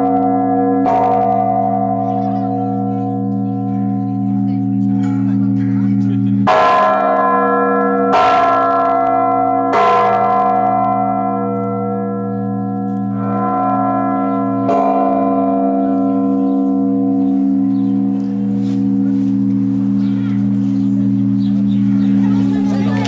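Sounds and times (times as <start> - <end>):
large church bell strokes: 0.0 - 23.0.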